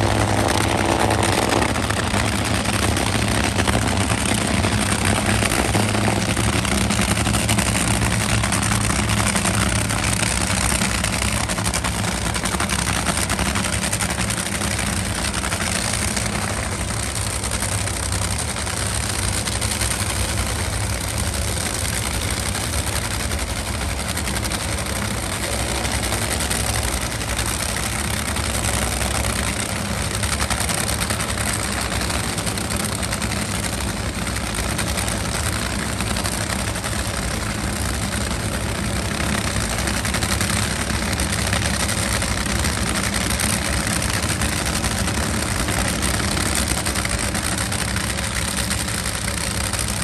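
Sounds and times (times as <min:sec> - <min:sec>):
race car engine idling: 0:00.0 - 0:50.0.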